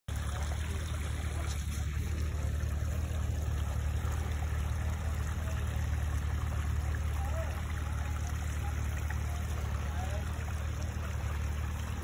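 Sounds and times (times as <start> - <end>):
engines idling: 0.1 - 12.0.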